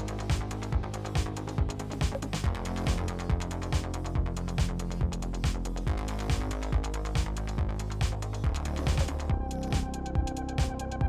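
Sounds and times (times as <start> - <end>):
electronic music with driving beat: 0.0 - 11.0.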